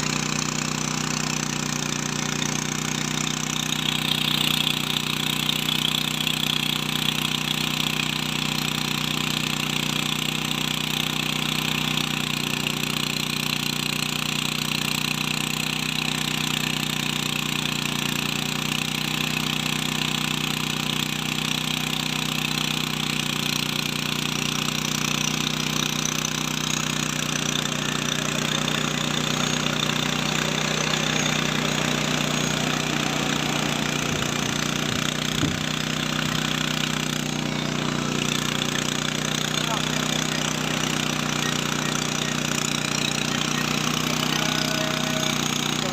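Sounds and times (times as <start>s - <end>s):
drone rotors humming: 0.0s - 45.9s.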